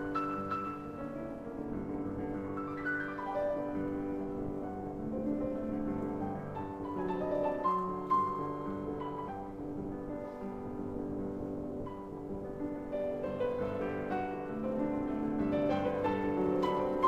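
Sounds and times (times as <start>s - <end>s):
solo piano classical music: 0.0s - 17.0s.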